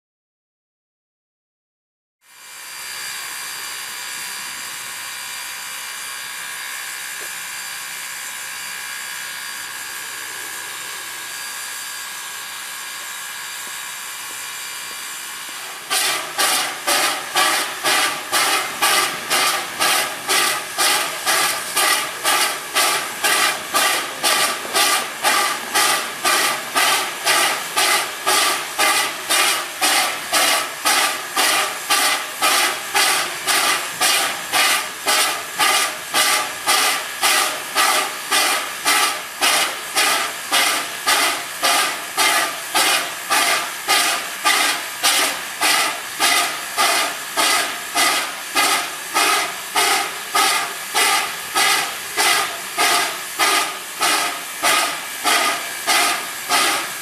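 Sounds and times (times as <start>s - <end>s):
rhythmic locomotive chuffing: 2.5s - 57.0s
steam locomotive hissing: 9.4s - 57.0s.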